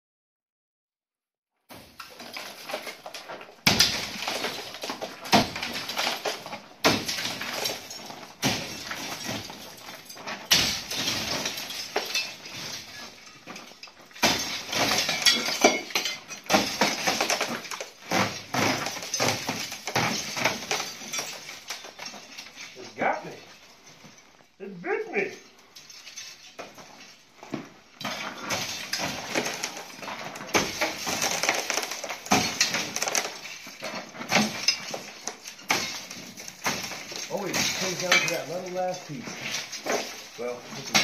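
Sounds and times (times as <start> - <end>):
plaster crashing down: 1.7 - 22.3, 28.0 - 41.0
crunching debris: 1.7 - 41.0.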